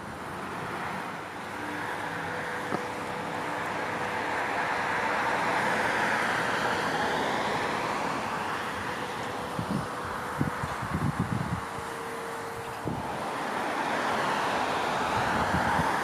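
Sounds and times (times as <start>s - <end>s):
car passing: 0.0s - 16.0s.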